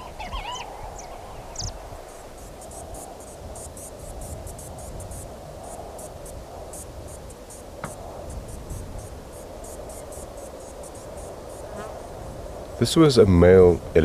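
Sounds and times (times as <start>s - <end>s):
insects chirping: 0.0s - 12.9s.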